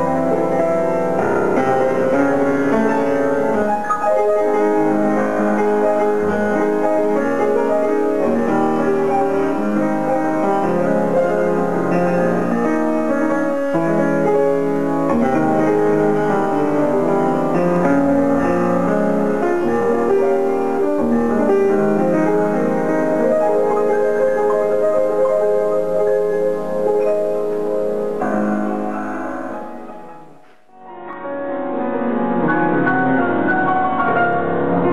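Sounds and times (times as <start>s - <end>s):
grand piano playing: 0.0s - 34.9s.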